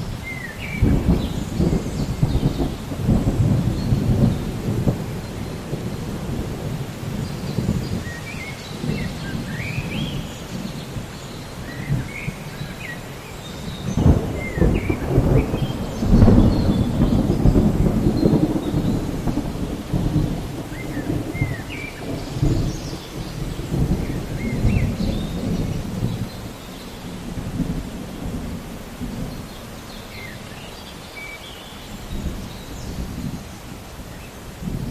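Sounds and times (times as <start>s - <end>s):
rolling thunder: 0.0s - 30.4s, 34.1s - 34.9s
steady rain: 0.0s - 34.9s.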